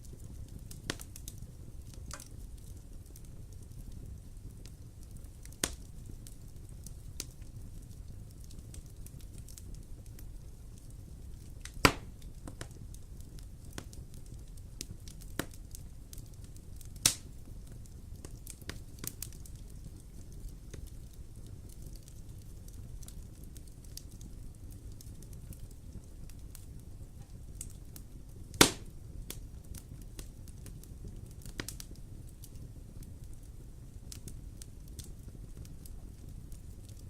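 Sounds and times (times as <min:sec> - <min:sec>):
sharp pops of fire: 0:00.0 - 0:37.0
wood fire crackling: 0:00.0 - 0:37.0.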